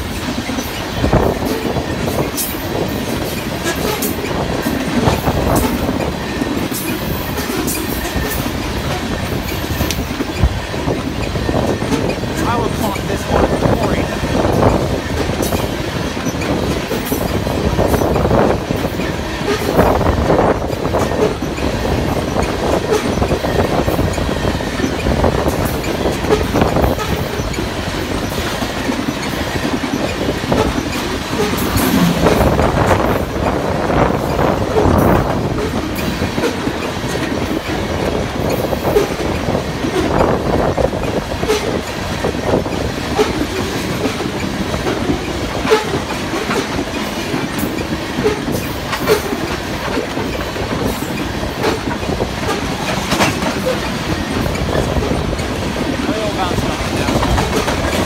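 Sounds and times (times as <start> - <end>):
train wheels rumbling on rails: 0.0 - 58.0
wheels clacking: 0.0 - 58.0.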